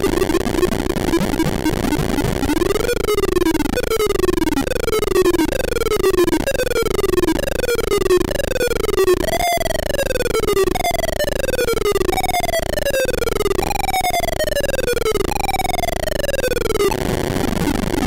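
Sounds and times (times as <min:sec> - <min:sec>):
electronic beeping tones sweeping: 0:00.1 - 0:17.0.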